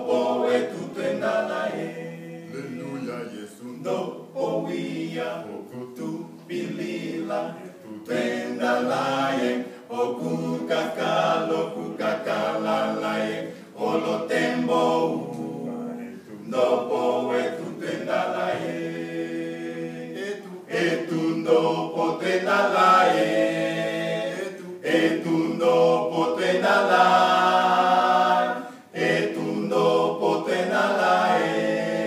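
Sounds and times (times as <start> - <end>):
male group singing in harmony: 0.0 - 32.0.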